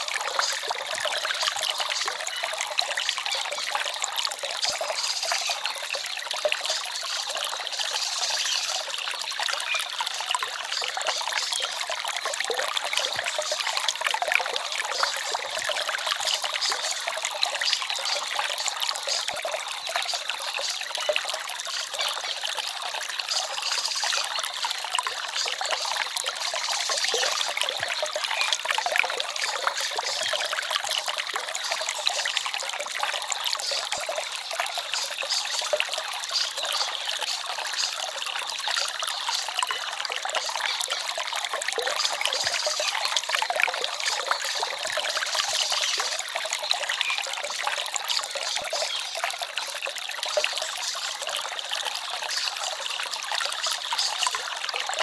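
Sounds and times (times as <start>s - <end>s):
stream babbling and trickling: 0.0s - 55.0s.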